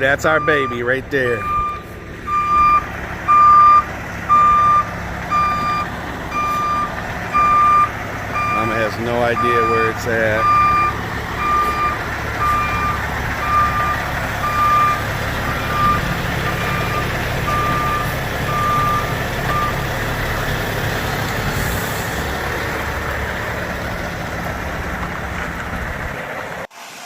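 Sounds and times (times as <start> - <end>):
truck backup alarm beeping: 0.0 - 22.3
diesel truck engine rumbling: 0.0 - 27.0.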